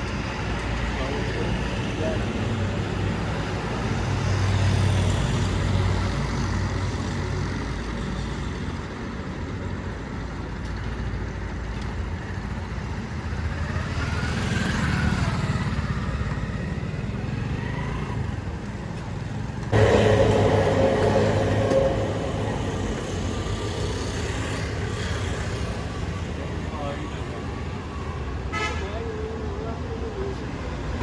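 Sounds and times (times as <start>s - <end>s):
vehicle engines humming: 0.0s - 28.3s.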